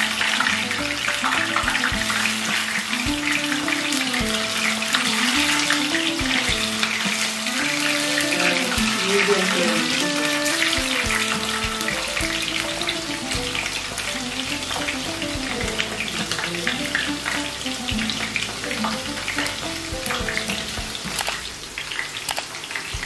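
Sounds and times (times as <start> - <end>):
food sizzling in hot oil: 0.0 - 23.0
soft background music: 0.0 - 23.0.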